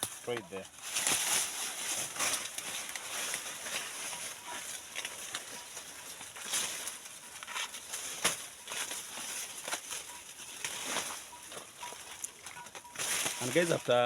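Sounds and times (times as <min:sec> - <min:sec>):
dry maize leaves rustling: 0:00.0 - 0:14.0.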